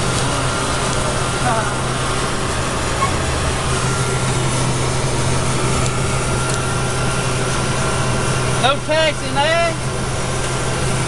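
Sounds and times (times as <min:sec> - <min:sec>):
jet engine drone with hiss: 0:00.0 - 0:11.0.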